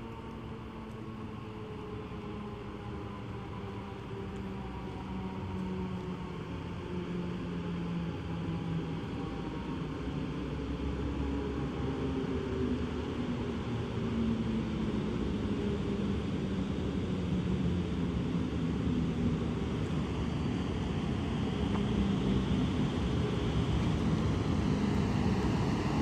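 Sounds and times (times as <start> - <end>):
train low hum: 0.0 - 26.0.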